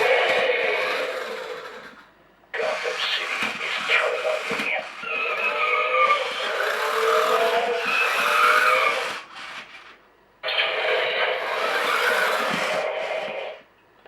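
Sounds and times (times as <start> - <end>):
remote-control toy whirring: 0.0 - 13.6.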